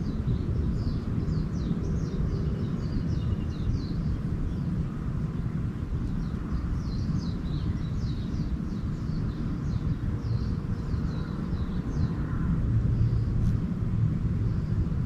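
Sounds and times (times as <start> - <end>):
songbirds twittering: 0.0 - 15.0
steady low rumble: 0.0 - 15.0.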